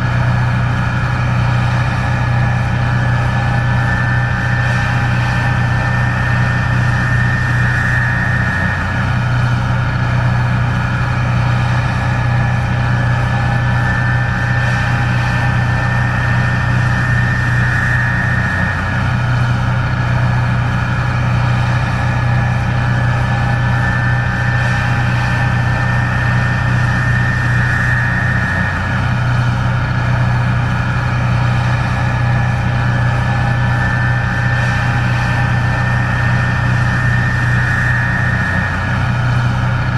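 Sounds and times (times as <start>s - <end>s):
combine diesel engine hum: 0.0s - 39.9s
high-pitched whine: 0.0s - 39.9s.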